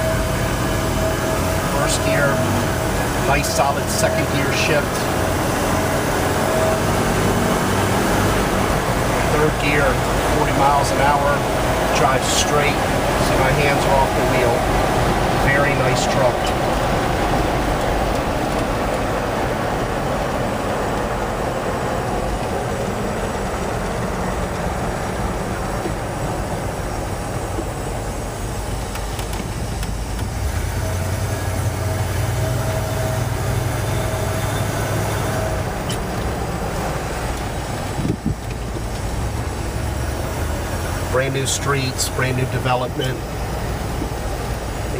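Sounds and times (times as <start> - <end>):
deep engine hum: 0.0 - 44.9
engine and road noise in cab: 0.0 - 44.9
faint whine: 0.0 - 44.9.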